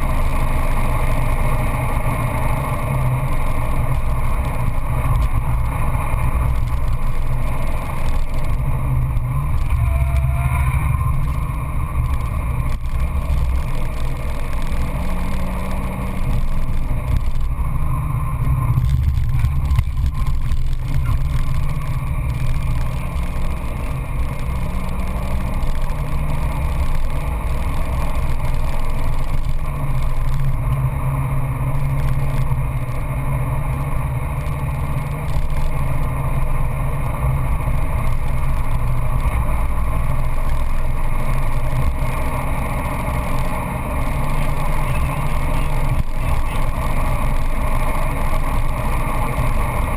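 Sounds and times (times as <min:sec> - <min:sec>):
car engine running hard: 0:00.0 - 0:49.9
road and wind noise: 0:00.0 - 0:49.9.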